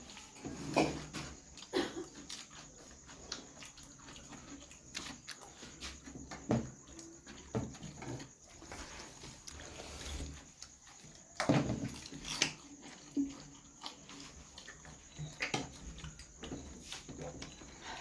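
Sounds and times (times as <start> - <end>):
wet chewing: 0.1 - 18.0.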